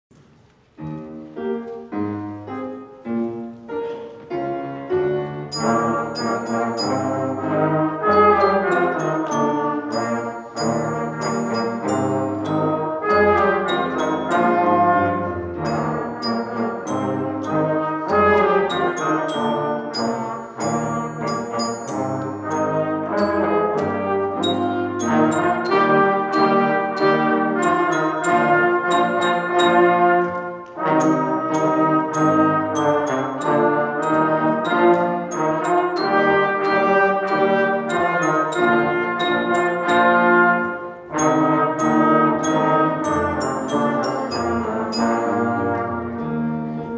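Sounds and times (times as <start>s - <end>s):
band playing: 0.7s - 46.9s
trombone and trumpet melody: 0.8s - 46.9s.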